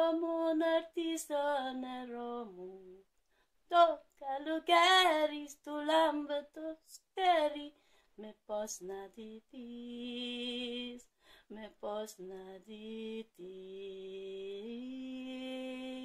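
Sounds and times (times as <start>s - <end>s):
woman singing unaccompanied: 0.0s - 3.0s, 3.7s - 16.0s.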